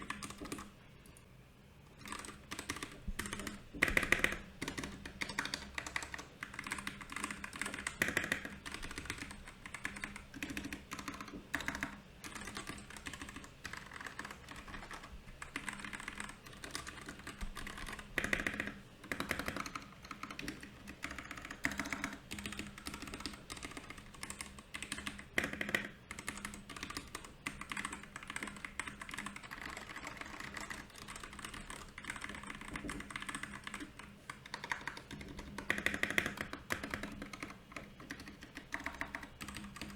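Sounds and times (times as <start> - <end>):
mechanical keyboard typing: 0.0 - 0.8, 2.0 - 39.9.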